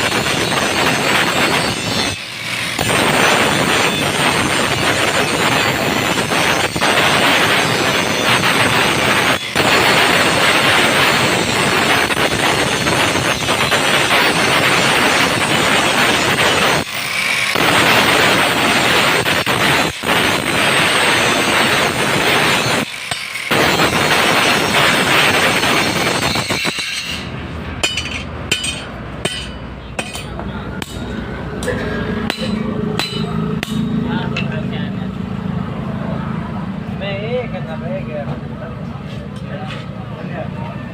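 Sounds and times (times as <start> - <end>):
power tool cutting steel: 0.0 - 34.8.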